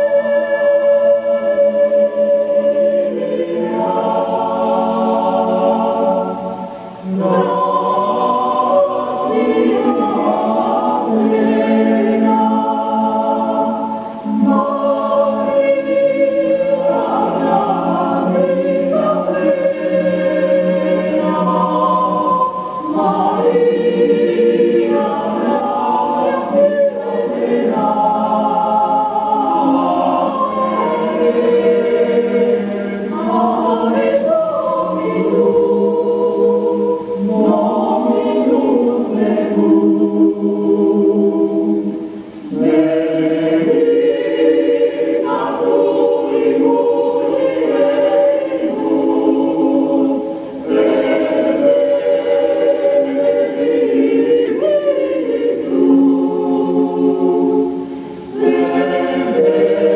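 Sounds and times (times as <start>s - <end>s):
choir singing sustained notes: 0.0s - 59.9s.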